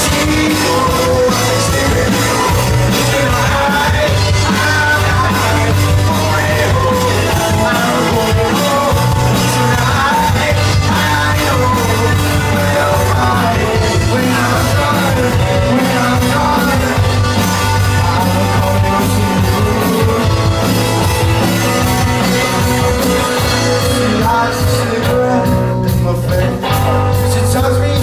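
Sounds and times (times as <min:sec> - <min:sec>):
rock band playing: 0:00.0 - 0:28.0
sung vocals: 0:00.0 - 0:28.0.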